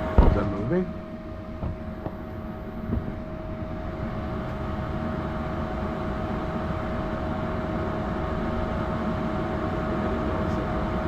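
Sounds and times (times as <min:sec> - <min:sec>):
furnace burner and blower rumble: 0:00.0 - 0:11.0
thin whine: 0:00.0 - 0:11.0.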